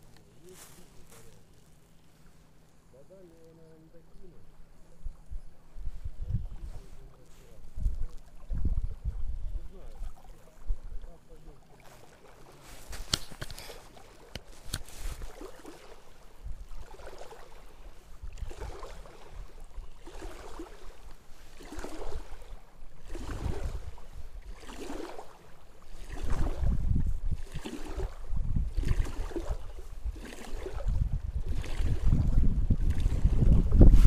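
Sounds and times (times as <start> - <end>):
small waves lapping: 0.0 - 34.0
wind rumbling on microphone: 4.4 - 11.2, 12.6 - 25.2, 25.8 - 34.0.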